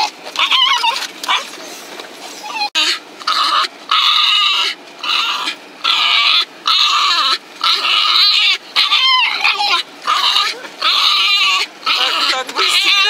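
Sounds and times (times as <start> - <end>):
dog whining: 0.0 - 13.0.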